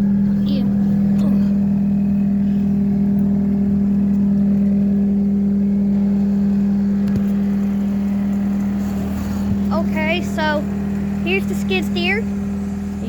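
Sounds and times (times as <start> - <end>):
skid steer engine humming: 0.0 - 13.0.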